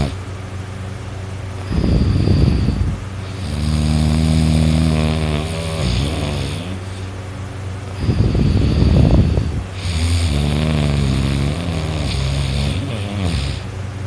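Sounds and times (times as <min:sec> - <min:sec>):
person snoring loudly: 0:00.0 - 0:00.2, 0:01.7 - 0:07.1, 0:08.0 - 0:13.7.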